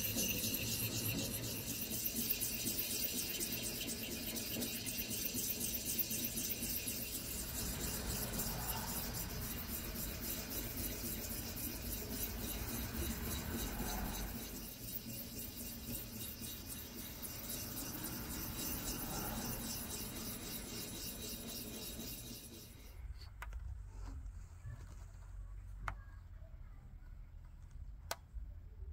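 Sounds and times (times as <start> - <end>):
hone scraping steel: 0.0 - 25.0.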